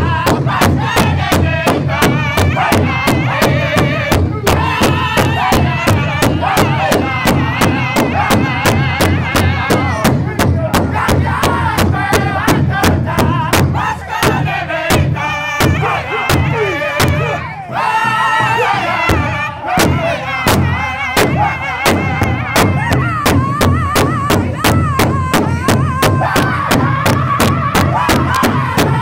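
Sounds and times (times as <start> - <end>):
group singing high-pitched song: 0.0 - 29.0
large hide drum beating: 0.0 - 29.0.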